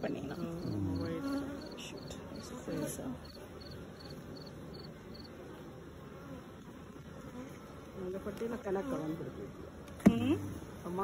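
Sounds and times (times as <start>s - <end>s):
bees humming: 0.0s - 11.0s.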